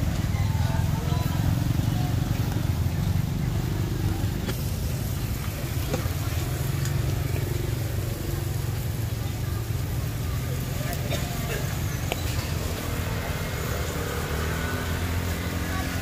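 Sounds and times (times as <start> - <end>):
motorbikes: 0.0 - 16.0
street traffic rumble: 0.0 - 16.0.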